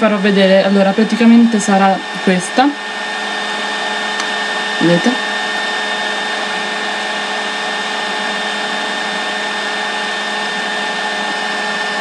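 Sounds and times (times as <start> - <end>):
motor whirring with high whine: 0.0 - 12.0.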